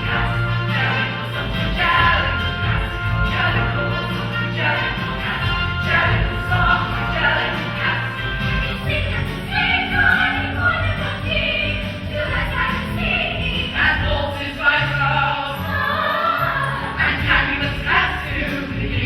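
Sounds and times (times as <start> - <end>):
musical accompaniment: 0.0 - 19.0
young chorus singing: 0.0 - 19.0.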